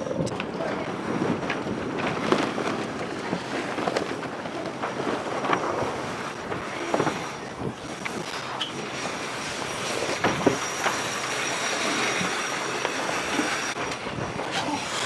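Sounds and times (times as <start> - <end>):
deck gear knocks and creaks: 0.1 - 12.2.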